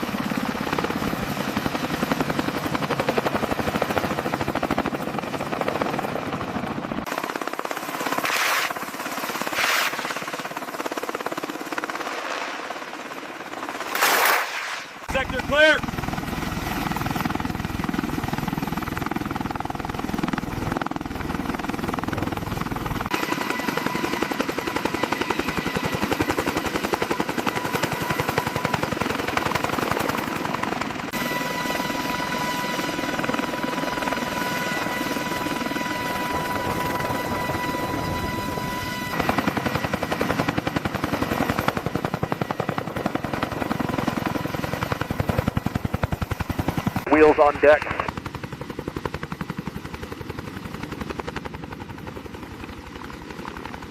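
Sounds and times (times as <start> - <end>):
helicopter rotor beating: 0.0 - 53.9.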